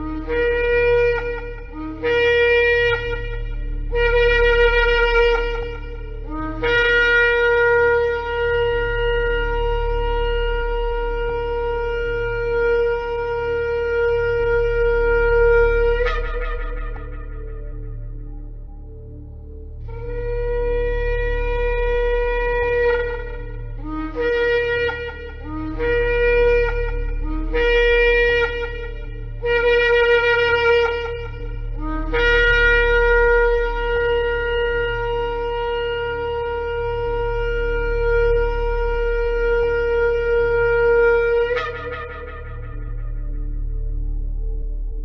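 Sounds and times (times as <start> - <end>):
shofar blasts: 0.0 - 45.0
steady low hum: 0.0 - 45.0.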